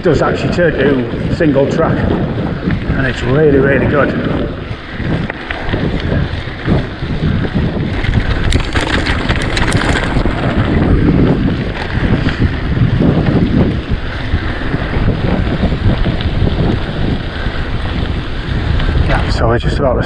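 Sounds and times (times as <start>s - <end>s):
bike rattles and clicks: 0.0s - 20.0s
mountain bike rumbling: 0.0s - 20.0s
wind buffeting microphone: 0.0s - 20.0s.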